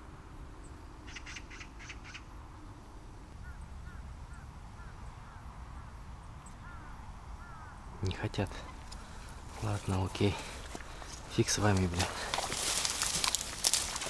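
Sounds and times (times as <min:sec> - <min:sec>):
harsh bird calls: 0:01.0 - 0:02.3, 0:03.4 - 0:14.0.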